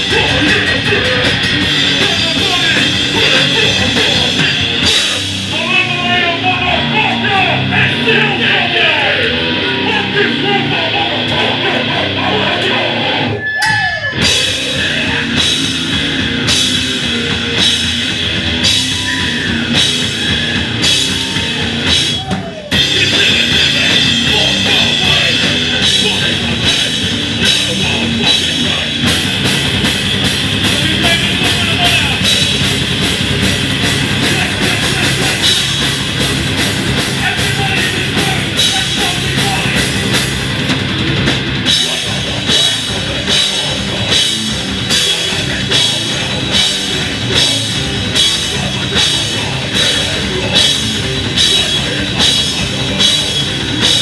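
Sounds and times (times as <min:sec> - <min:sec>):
hardcore band playing live: 0:00.0 - 0:54.0.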